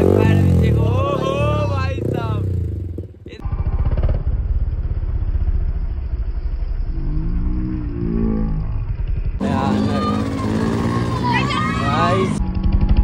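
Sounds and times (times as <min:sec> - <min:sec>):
motorcycle engine running loudly: 0:00.0 - 0:13.0.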